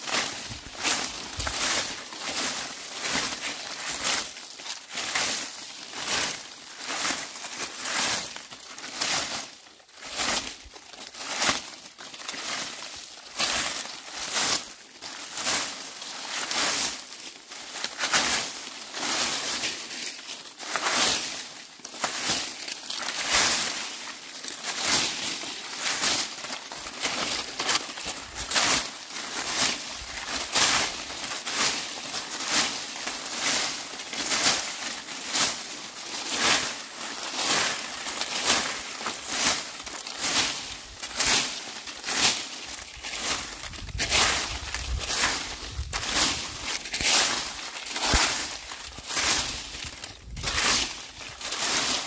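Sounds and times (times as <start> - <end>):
broom sweeping dry leaves: 0.0 - 52.0.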